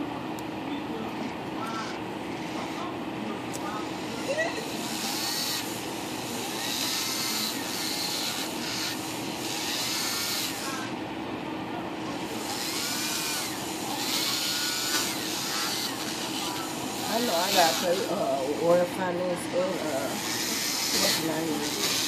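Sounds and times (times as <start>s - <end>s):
electric nail file whirring: 1.1s - 2.9s, 3.5s - 11.0s, 12.0s - 22.0s.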